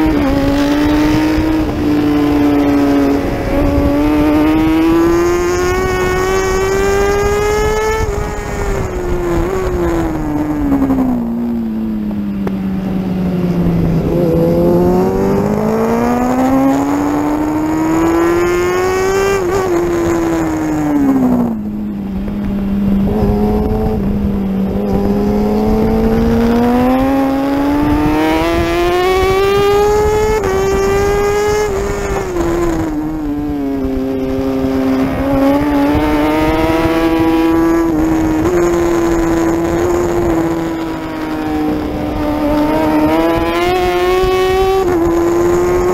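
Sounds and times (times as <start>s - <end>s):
motorcycle engine revving: 0.0s - 45.9s
wind and road noise: 0.0s - 45.9s.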